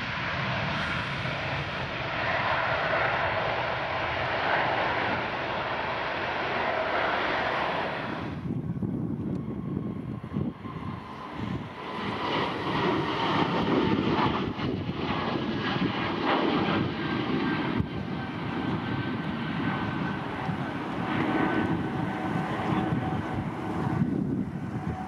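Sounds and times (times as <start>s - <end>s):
aircraft engines roaring: 0.0s - 25.0s.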